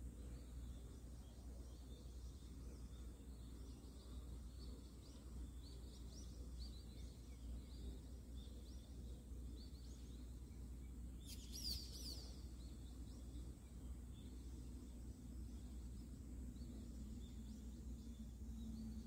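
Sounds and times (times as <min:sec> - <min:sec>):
low background rumble: 0:00.0 - 0:19.0
small birds chirping: 0:00.0 - 0:19.0.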